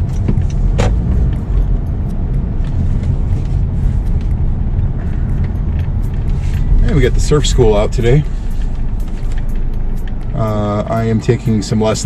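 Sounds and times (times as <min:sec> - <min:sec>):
loud low rumbling: 0:00.0 - 0:10.8.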